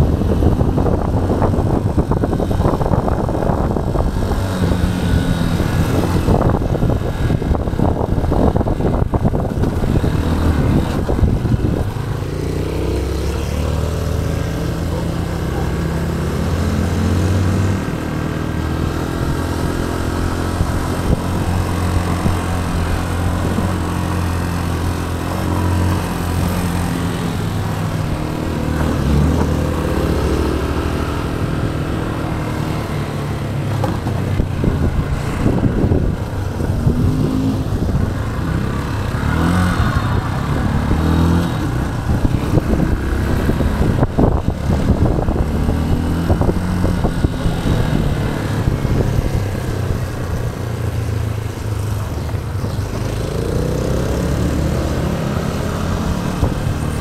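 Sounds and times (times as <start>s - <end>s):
motorcycle engine revving: 0.0s - 57.0s
road noise rushing: 0.0s - 57.0s.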